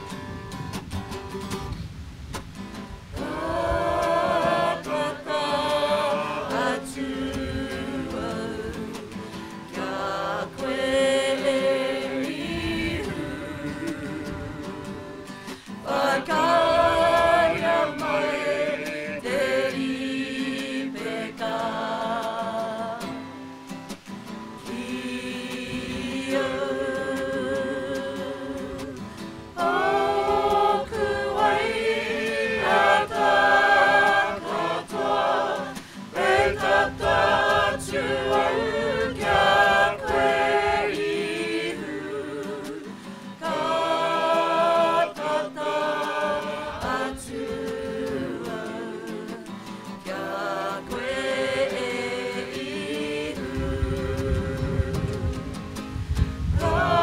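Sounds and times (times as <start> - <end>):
mixed choir singing in harmony: 3.1 - 23.2, 24.6 - 55.7, 56.4 - 57.0.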